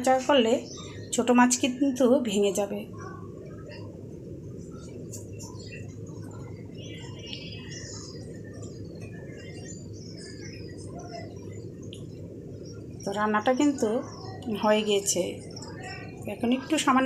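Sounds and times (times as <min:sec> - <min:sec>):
curry cooking low rumble: 0:00.0 - 0:17.0
small birds chirping: 0:00.0 - 0:17.0.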